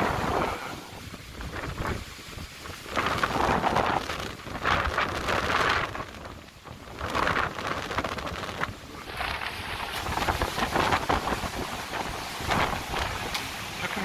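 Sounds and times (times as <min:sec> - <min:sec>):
wind buffeting microphone: 0:00.0 - 0:14.0
wind rustling through trees: 0:00.0 - 0:14.0.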